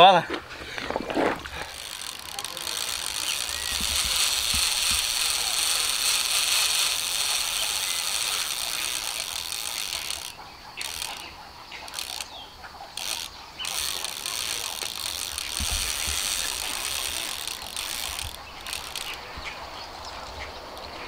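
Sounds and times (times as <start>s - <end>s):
fishing reel drag clicking: 1.4s - 19.3s.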